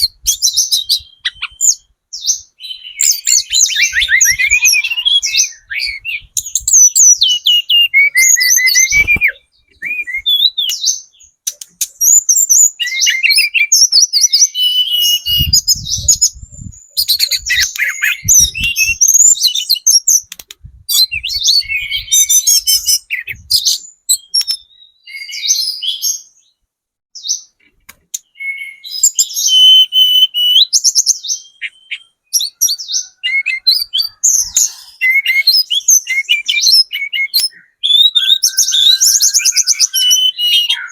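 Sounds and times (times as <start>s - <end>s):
bird singing whistled phrases: 0.0s - 20.3s, 20.9s - 26.5s, 28.2s - 40.9s.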